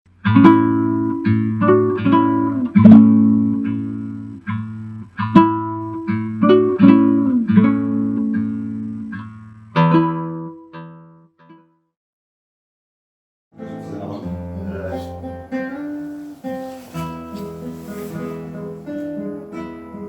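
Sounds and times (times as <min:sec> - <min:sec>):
acoustic guitar picking: 0:00.2 - 0:11.6, 0:13.6 - 0:20.0.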